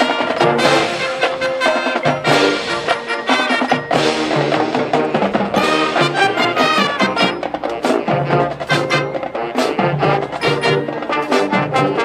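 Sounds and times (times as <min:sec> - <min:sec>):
brass melody: 0:00.0 - 0:12.0
marching drums and percussion: 0:00.0 - 0:12.0.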